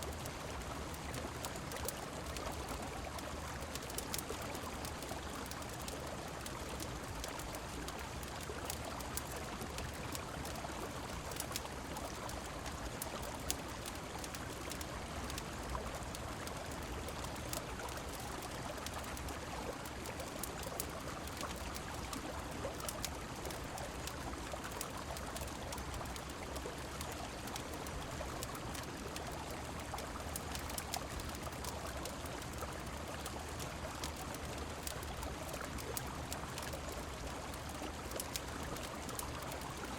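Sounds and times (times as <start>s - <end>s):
rain falling: 0.0s - 39.9s
sharp little ticks and pops: 0.0s - 39.9s.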